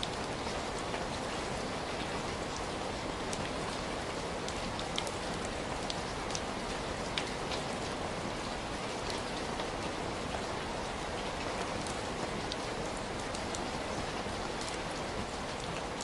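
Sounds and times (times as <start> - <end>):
heavy rain: 0.0 - 16.0
raindrops ticking on a surface: 0.0 - 16.0.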